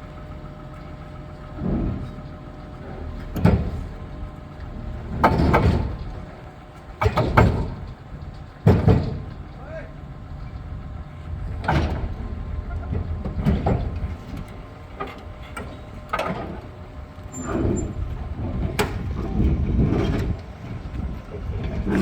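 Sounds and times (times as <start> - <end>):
diesel engine rumbling: 0.0 - 22.0
metallic clanks and knocks: 0.7 - 9.6, 11.4 - 20.4.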